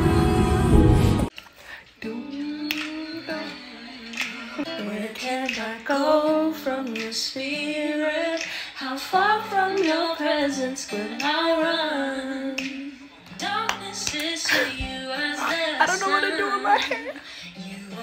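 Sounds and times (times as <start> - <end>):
woman singing worship song: 0.0 - 18.0.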